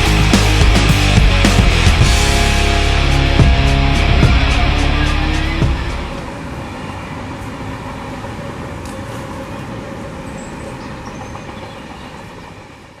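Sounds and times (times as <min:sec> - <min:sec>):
train rumbling on rails: 0:01.7 - 0:13.0.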